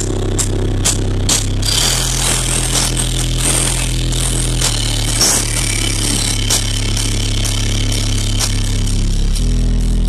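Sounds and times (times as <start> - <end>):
loud car stereo music: 0.0 - 10.0.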